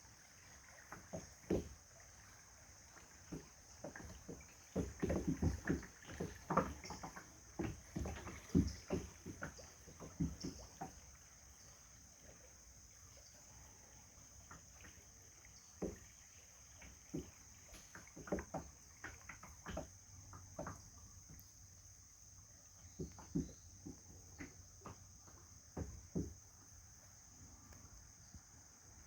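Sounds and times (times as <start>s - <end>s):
paddle splashing in water: 0.0s - 29.0s.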